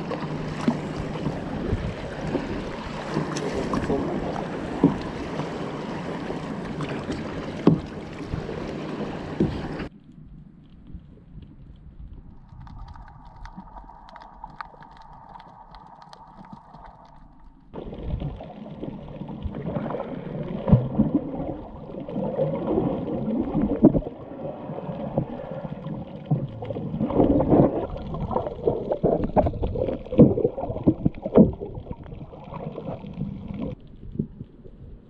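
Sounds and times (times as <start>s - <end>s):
muffled underwater gurgling: 0.0s - 9.9s, 11.2s - 35.0s.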